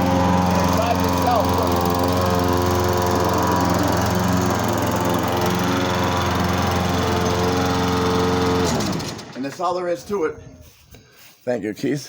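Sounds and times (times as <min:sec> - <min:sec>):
lawn mower engine running: 0:00.0 - 0:10.1.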